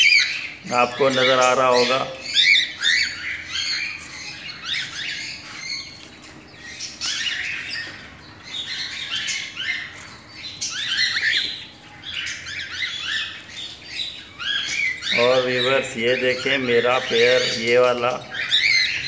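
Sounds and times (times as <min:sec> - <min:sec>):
cockatiels chirping and squawking: 0:00.0 - 0:19.0.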